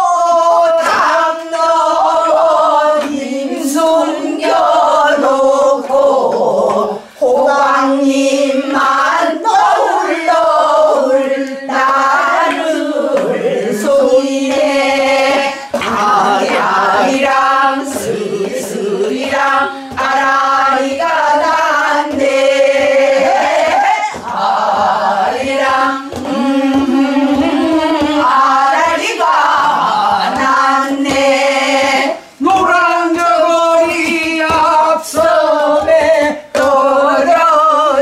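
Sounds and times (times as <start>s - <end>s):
group singing a folk song: 0.0s - 38.0s.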